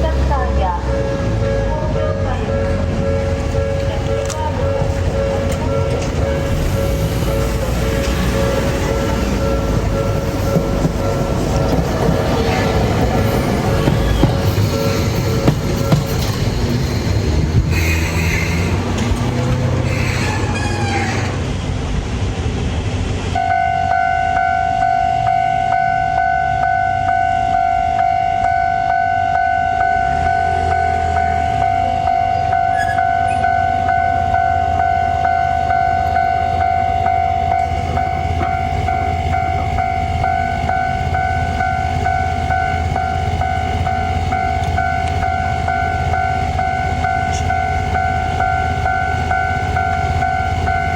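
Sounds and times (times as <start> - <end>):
level-crossing alarm bell: 0.0 - 17.2, 23.4 - 50.9
tram wheels squealing: 0.0 - 21.8, 29.4 - 50.9.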